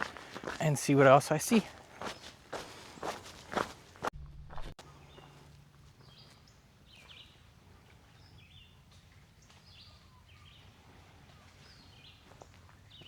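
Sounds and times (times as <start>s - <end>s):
quiet woodland background: 0.0s - 13.0s.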